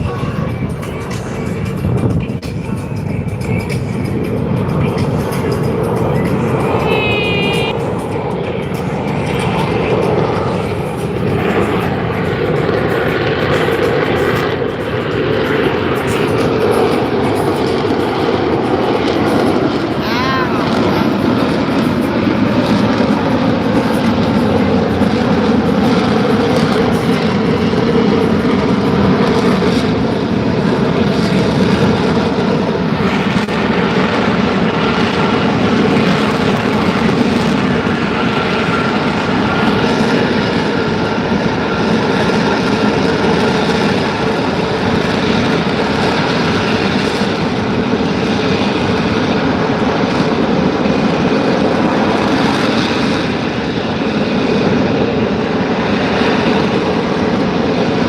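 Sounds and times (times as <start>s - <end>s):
jet engine blast while hovering: 0.0s - 58.0s.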